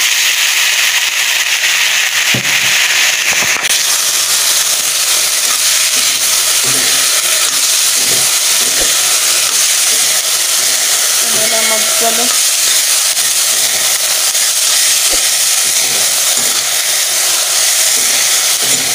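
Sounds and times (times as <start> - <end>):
greens sizzling in hot oil: 0.0 - 18.9.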